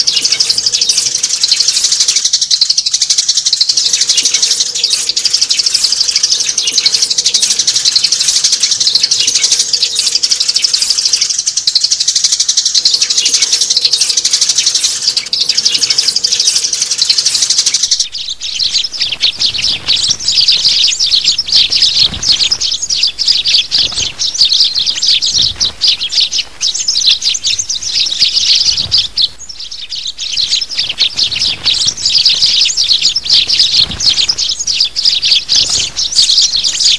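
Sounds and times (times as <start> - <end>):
sparrows chirping: 0.0 - 36.9.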